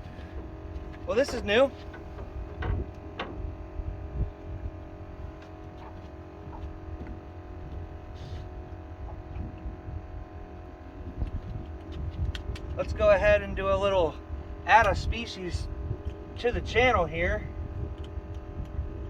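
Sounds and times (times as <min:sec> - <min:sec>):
steady tonal hum: 0:00.0 - 0:19.0.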